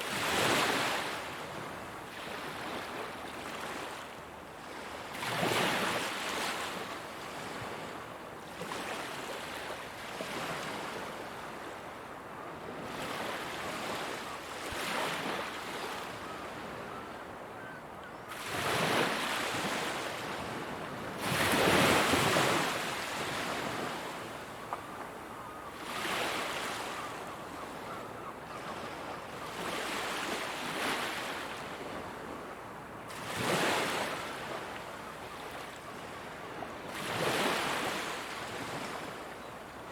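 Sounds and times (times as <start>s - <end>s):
ocean waves breaking on shore: 0.0s - 11.8s, 12.7s - 17.3s, 18.3s - 32.4s, 33.1s - 39.4s.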